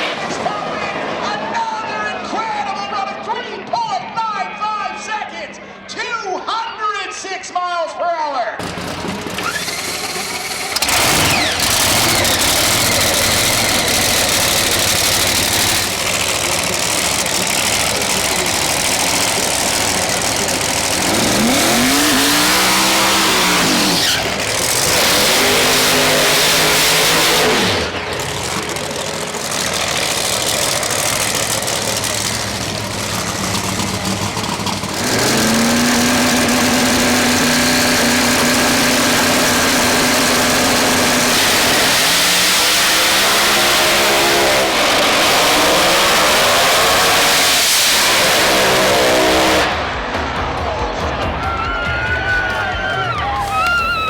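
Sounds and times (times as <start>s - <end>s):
drag racing car engines: 0.0s - 7.5s, 8.6s - 54.0s.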